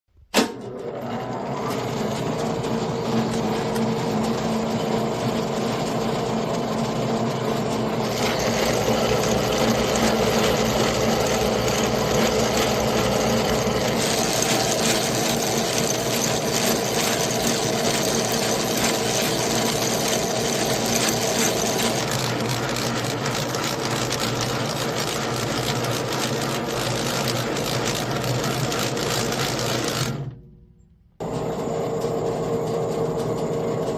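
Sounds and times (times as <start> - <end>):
lathe running: 0.9 - 30.2, 31.2 - 33.9.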